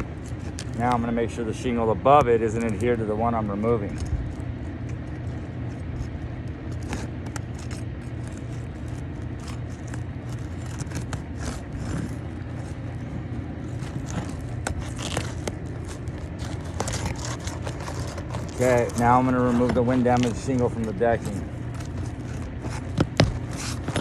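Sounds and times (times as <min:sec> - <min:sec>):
low hum: 0:00.0 - 0:24.0
tool scraping roof shingles: 0:00.0 - 0:24.0.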